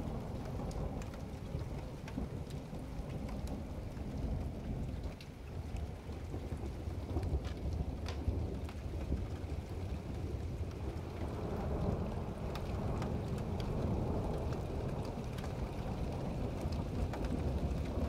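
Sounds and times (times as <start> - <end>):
low rumble of thunder: 0.0 - 18.0
rain falling: 0.0 - 18.0.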